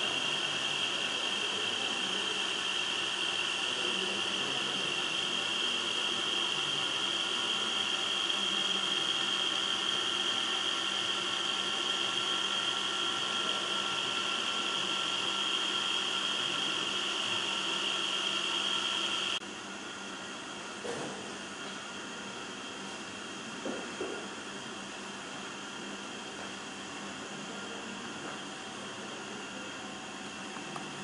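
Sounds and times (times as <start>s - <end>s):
tribometer disc whirring with high whine: 0.0s - 31.0s.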